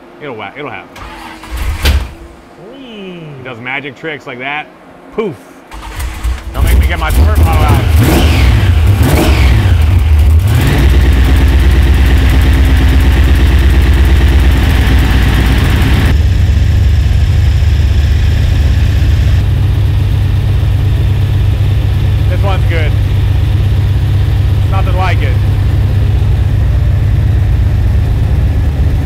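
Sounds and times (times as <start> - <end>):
engine idling loudly: 5.7 - 29.0
engine revving: 5.7 - 29.0.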